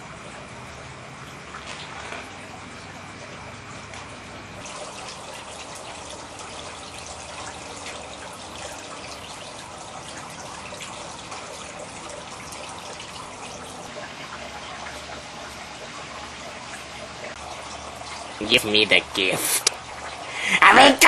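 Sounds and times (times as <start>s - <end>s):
fountain water trickling: 0.0s - 21.0s.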